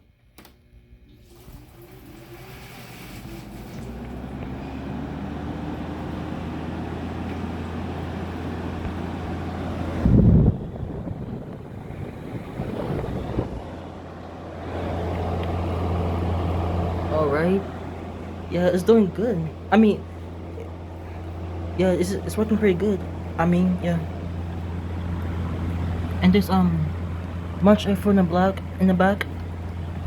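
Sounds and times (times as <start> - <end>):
air conditioner fan humming: 0.0 - 30.0.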